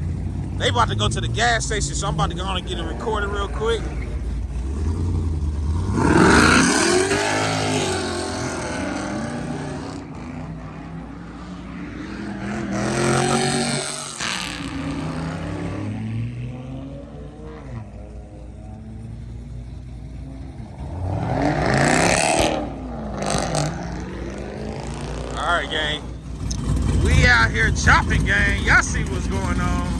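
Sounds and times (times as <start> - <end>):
cars accelerating hard: 0.0 - 29.9.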